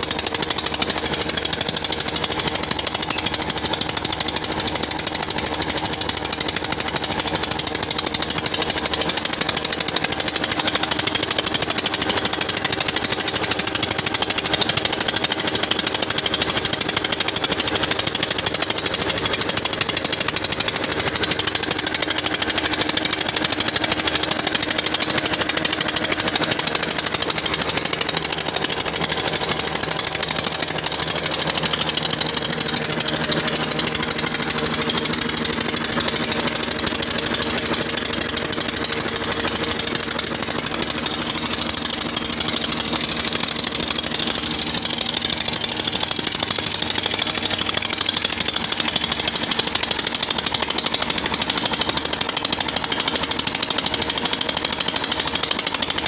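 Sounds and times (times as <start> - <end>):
diesel engine pounding: 0.0 - 56.0
flour mill running: 0.0 - 56.0.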